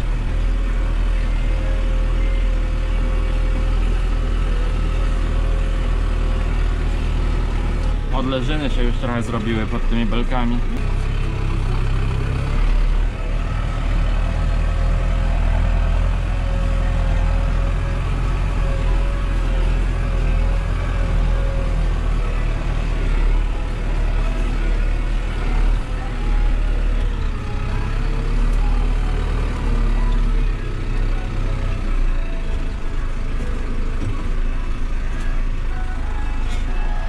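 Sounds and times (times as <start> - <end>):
diesel engine under load: 0.0 - 37.0.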